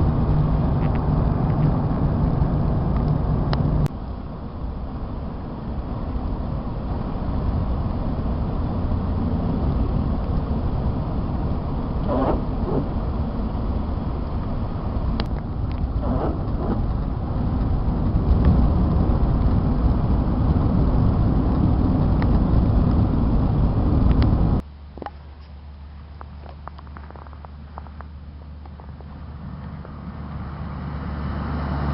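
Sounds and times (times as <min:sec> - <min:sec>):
car driving on snowy road: 0:00.0 - 0:31.9
low hum: 0:00.0 - 0:31.9.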